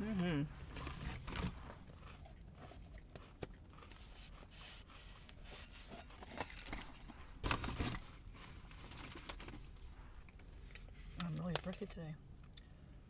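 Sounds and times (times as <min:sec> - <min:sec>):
rustling and handling noises: 0:00.6 - 0:11.7.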